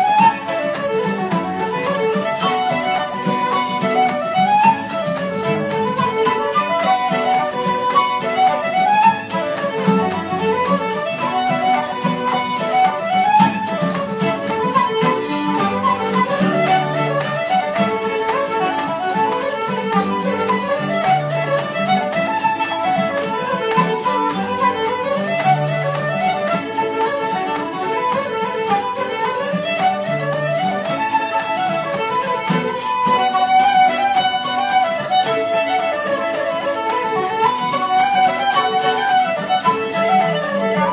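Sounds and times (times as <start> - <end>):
fiddles flute and mandolin dance tune: 0.0 - 40.9.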